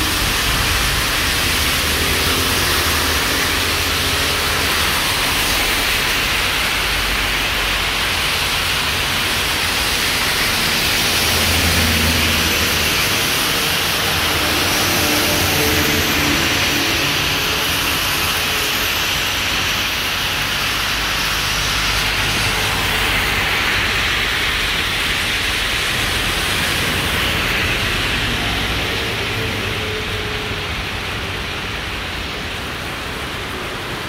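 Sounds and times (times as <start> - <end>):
car tyres swishing on wet road: 0.0 - 34.0
heavy rain on road: 0.0 - 34.0.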